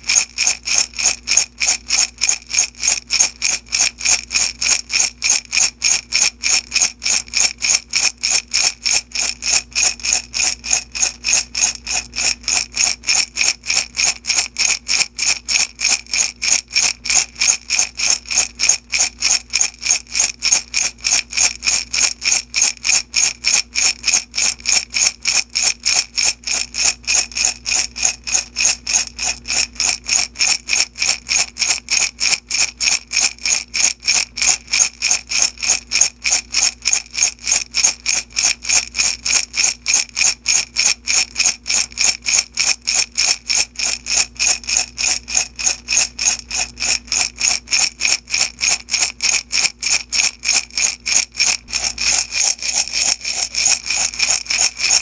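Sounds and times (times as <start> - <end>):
beads rattling in glass jar: 0.0 - 55.0.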